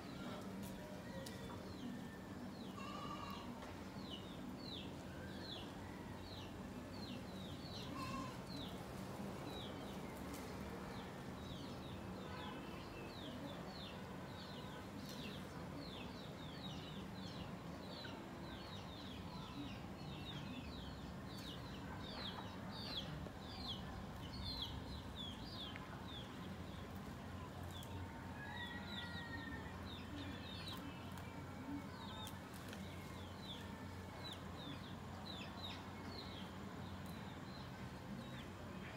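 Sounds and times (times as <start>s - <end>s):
low outdoor background: 0.0s - 38.9s.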